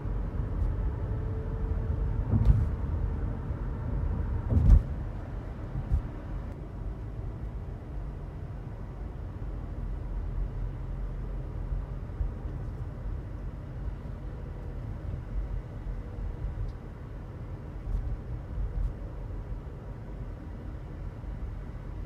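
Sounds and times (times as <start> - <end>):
car road noise from inside: 0.0 - 22.0.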